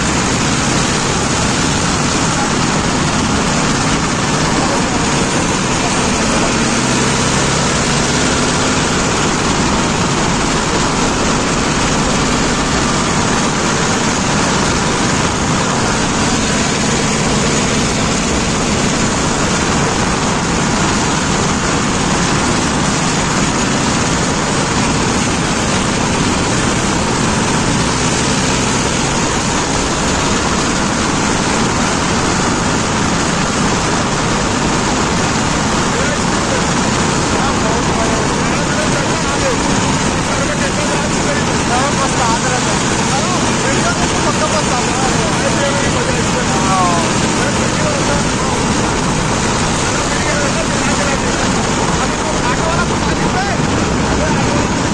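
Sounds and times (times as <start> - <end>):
constant rushing noise: 0.0 - 54.9
tractor diesel engine running: 0.0 - 54.9.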